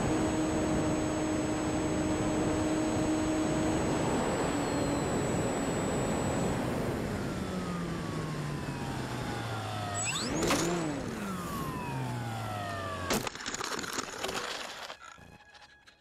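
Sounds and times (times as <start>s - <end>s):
electric motor whining: 0.0s - 13.3s.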